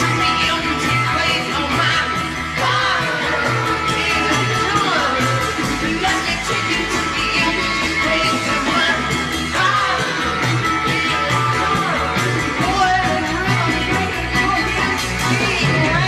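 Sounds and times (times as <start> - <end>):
person singing: 0.0 - 16.0
psychedelic rock band playing: 0.0 - 16.0.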